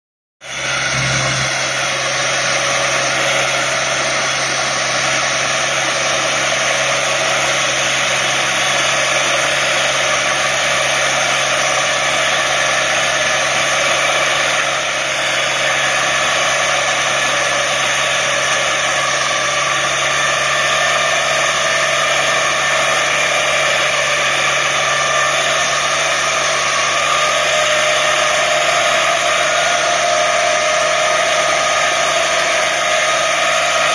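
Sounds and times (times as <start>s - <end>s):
rotary mower whirring: 0.4s - 33.9s
tractor engine hum: 0.4s - 33.9s.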